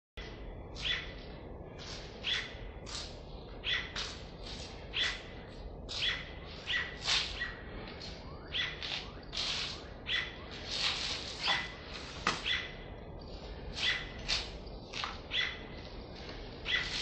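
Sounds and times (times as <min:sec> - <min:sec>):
bird chirping: 0:00.2 - 0:17.0.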